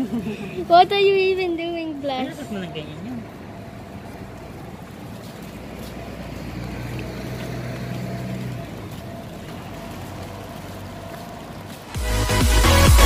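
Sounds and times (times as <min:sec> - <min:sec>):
city traffic rumble: 0:00.0 - 0:13.0
vehicle engine hum: 0:00.0 - 0:13.0.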